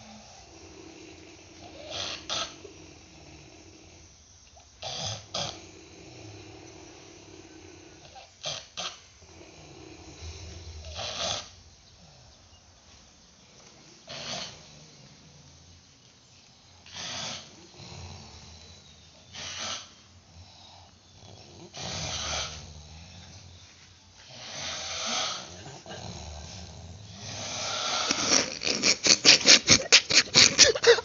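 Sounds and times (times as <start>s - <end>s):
fast fluttering snore rattle: 0.0s - 4.1s, 4.7s - 16.0s, 16.8s - 31.0s
person snoring: 0.0s - 4.2s, 4.8s - 12.4s, 14.0s - 15.5s, 16.8s - 23.6s, 24.3s - 31.0s.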